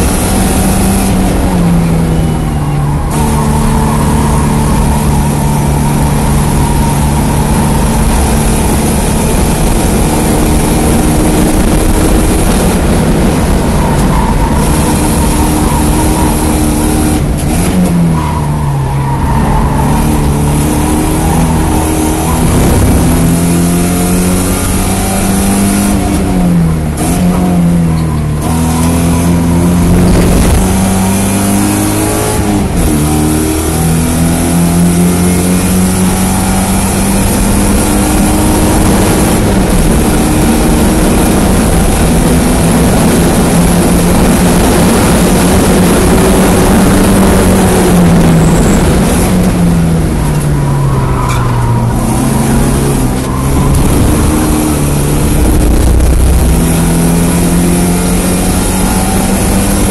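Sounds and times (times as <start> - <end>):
car engine at racing speed: 0.0 - 59.9.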